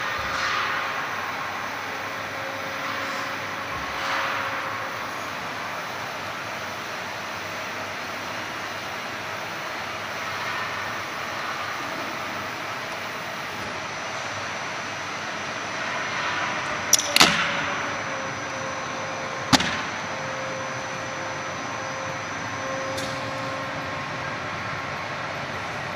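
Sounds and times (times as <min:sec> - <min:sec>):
roll-bending machine running: 0:00.0 - 0:25.9.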